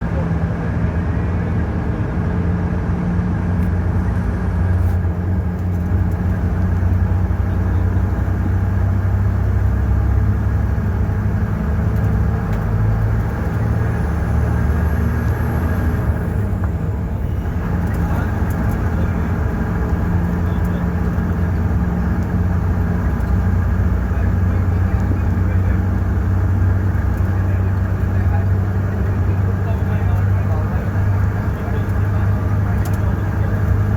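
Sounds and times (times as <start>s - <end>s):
bus diesel engine drone: 0.0s - 33.9s.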